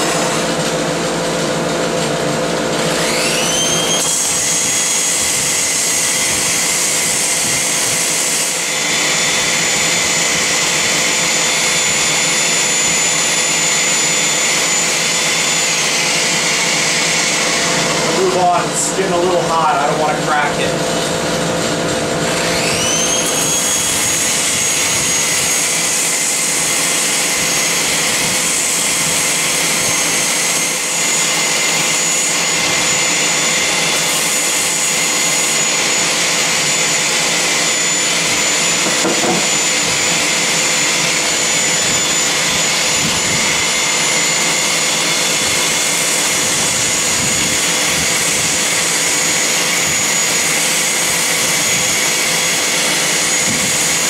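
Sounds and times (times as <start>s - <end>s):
orbital sander sanding wood: 0.0s - 54.0s
shop vacuum rushing: 0.0s - 54.0s.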